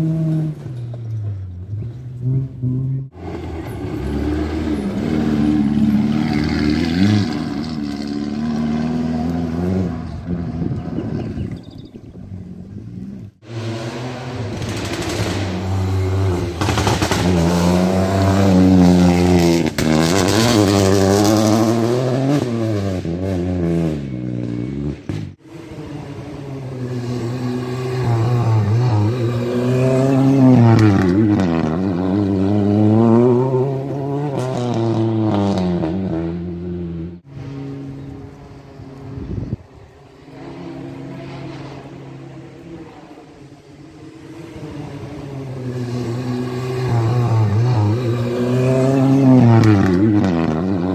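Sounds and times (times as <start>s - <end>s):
rally cars passing at speed: 0.0s - 50.9s
engines revving hard: 2.2s - 11.6s, 12.6s - 50.9s.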